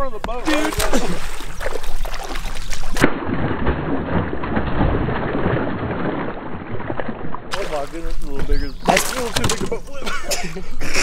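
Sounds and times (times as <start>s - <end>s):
fish splashing in water: 0.5s - 9.8s.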